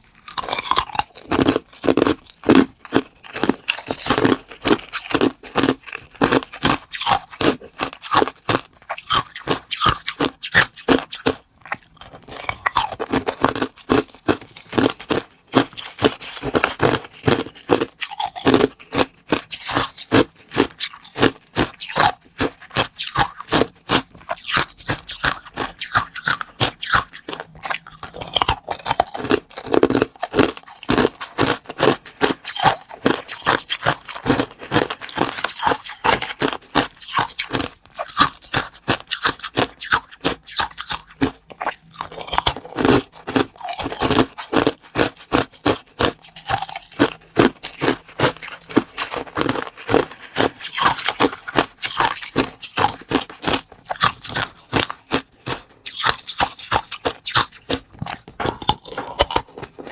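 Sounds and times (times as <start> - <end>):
crunchy bites and chewing: 0.0 - 59.9.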